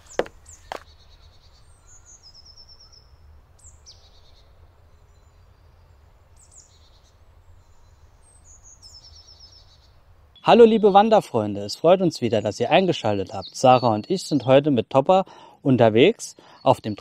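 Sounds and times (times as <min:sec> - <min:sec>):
songbirds trilling and chirping: 0:00.0 - 0:17.0.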